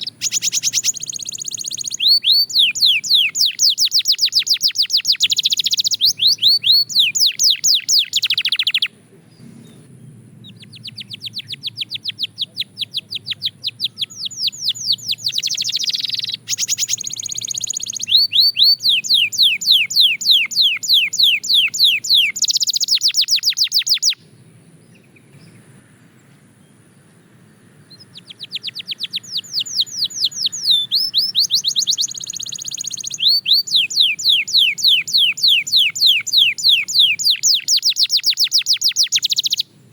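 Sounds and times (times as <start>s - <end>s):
canary singing trills: 0.0s - 25.7s, 26.7s - 39.8s.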